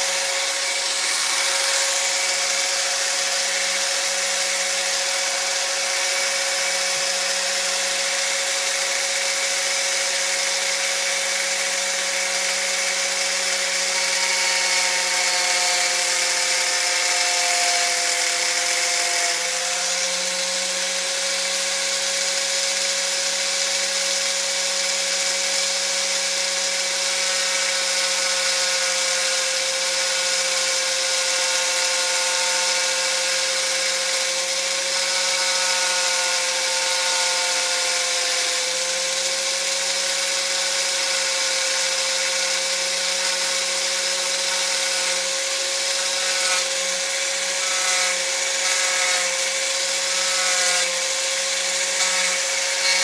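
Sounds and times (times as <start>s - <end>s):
power sander on wood: 0.0s - 53.0s.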